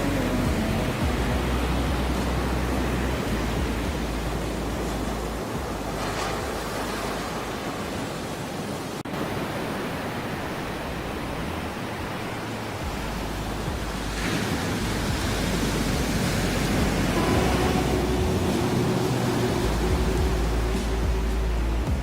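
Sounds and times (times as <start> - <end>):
ocean waves washing in: 0.0 - 22.0.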